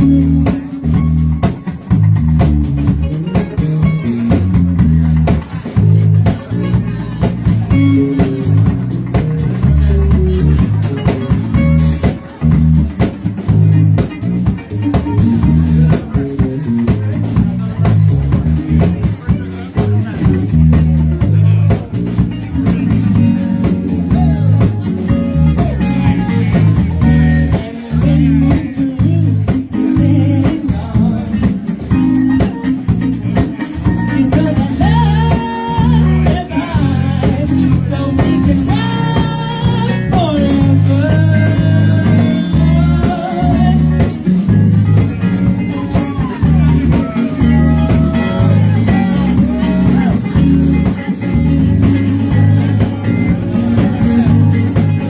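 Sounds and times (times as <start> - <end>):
bass guitar: 0.0 - 55.0
drums: 0.0 - 55.0
electric guitar: 0.0 - 55.0.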